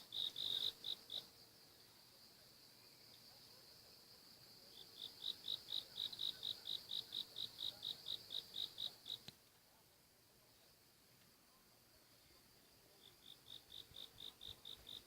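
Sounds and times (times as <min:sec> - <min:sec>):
insects chirping: 0:00.0 - 0:09.3, 0:10.2 - 0:15.0
steady high insect trill: 0:00.0 - 0:09.3, 0:11.6 - 0:15.0.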